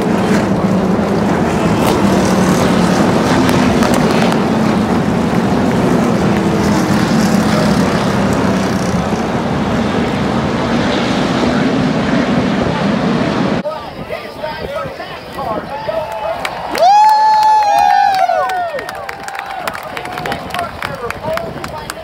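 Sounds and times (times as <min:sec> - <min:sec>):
race car engines roaring past: 0:00.0 - 0:13.6, 0:15.2 - 0:22.0.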